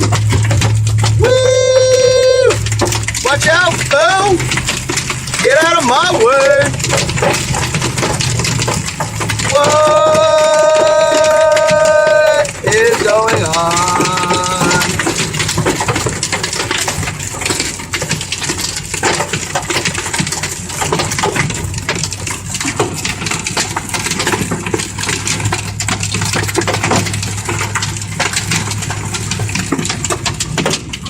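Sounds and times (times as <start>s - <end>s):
engine humming low: 0.0s - 31.0s
heavy rain drumming on vehicle roof: 0.0s - 31.0s.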